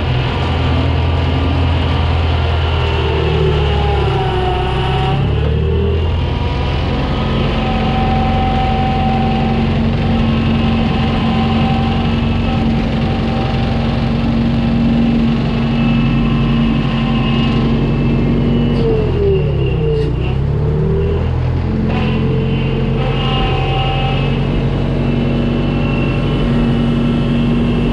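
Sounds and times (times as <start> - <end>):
skid steer engine running: 0.0 - 27.9.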